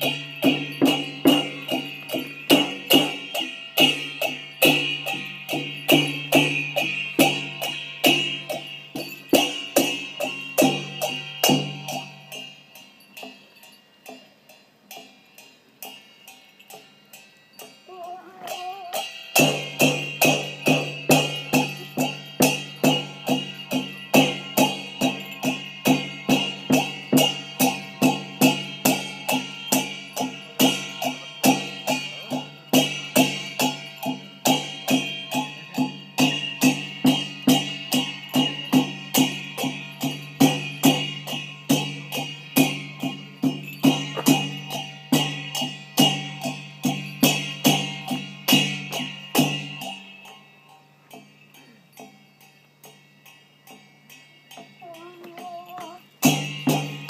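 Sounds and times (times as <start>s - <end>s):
handheld drum beating: 0.0s - 14.2s, 17.6s - 57.0s
cymbals ringing: 0.0s - 57.0s.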